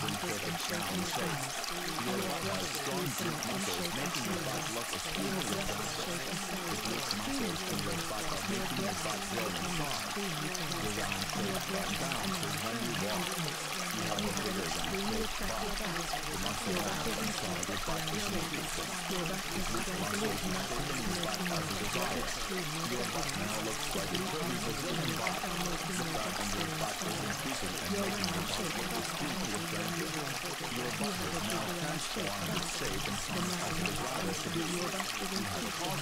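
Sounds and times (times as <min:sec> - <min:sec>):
low steady tone: 0:00.0 - 0:36.0
running water stream: 0:00.0 - 0:36.0.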